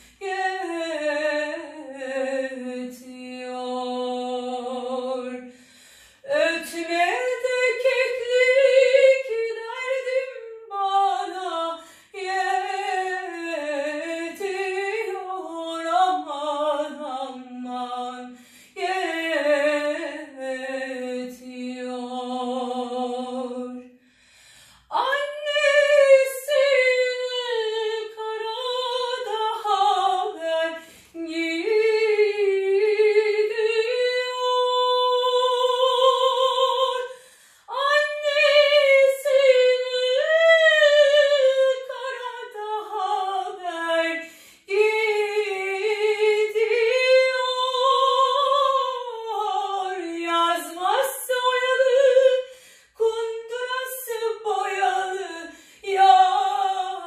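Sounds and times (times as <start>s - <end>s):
woman singing unaccompanied: 0.0s - 5.6s, 6.2s - 23.9s, 24.9s - 57.0s.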